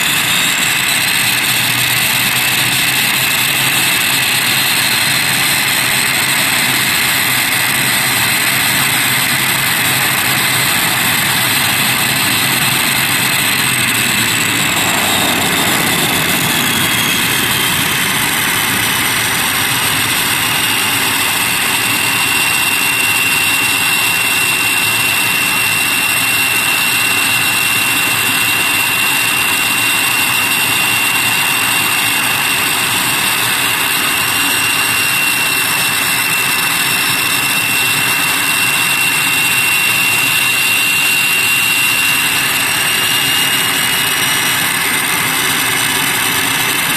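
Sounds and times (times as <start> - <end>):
propeller drone: 0.0 - 46.9
turbine whine: 0.0 - 46.9.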